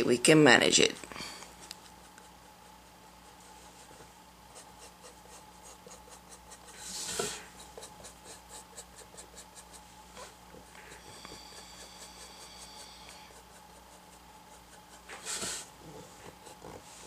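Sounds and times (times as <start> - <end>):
paintbrush strokes on board: 1.5 - 17.0.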